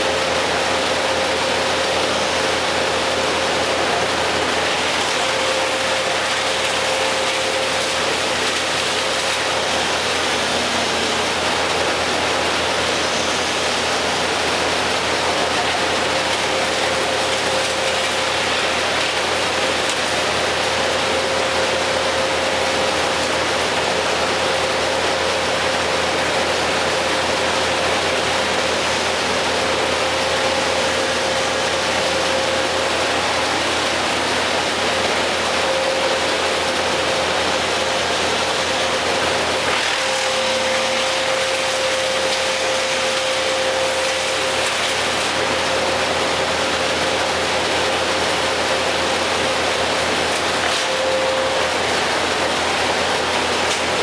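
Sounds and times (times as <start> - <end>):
motor humming steadily: 0.0 - 54.0.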